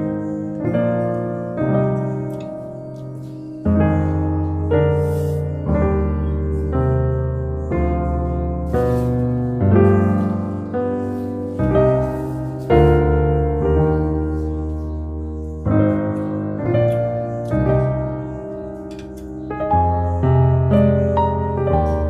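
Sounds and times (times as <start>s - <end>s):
gentle piano chords: 0.0s - 22.0s.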